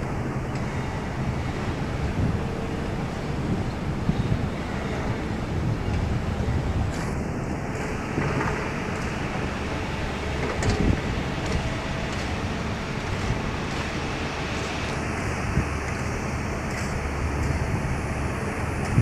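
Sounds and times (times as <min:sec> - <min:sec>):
train low rumble and hum: 0:00.0 - 0:19.0.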